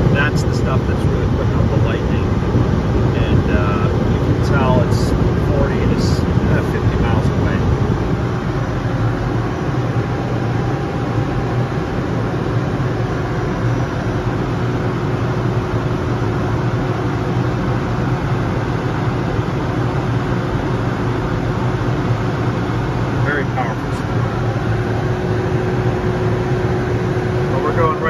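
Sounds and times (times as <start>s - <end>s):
jet cabin rushing hum: 0.0s - 28.0s.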